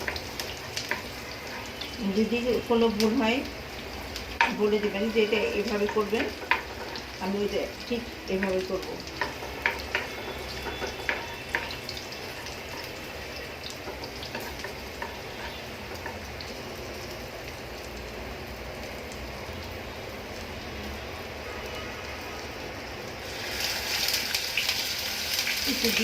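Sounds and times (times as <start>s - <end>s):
onion sizzling in oil: 0.0s - 26.0s.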